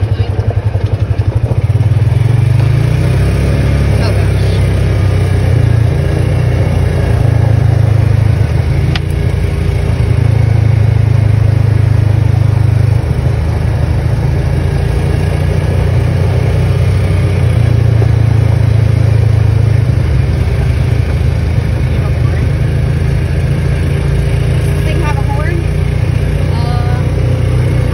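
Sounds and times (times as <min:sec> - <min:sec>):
vehicle engine low drone: 0:00.0 - 0:27.9.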